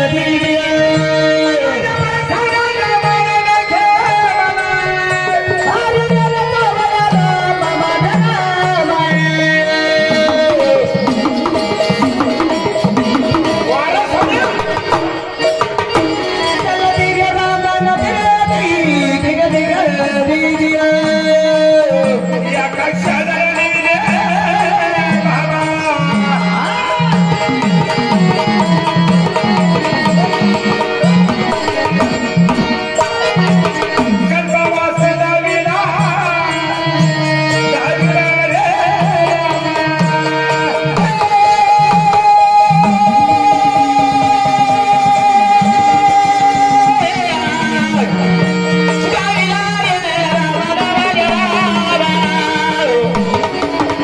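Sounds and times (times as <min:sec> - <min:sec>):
instrumental melody: 0:00.0 - 0:54.0.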